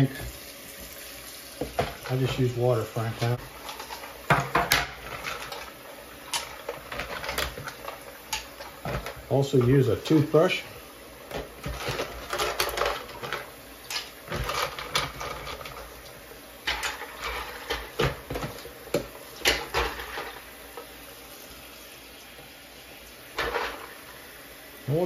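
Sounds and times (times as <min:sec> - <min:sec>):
water running from a tap: 0:00.0 - 0:25.0.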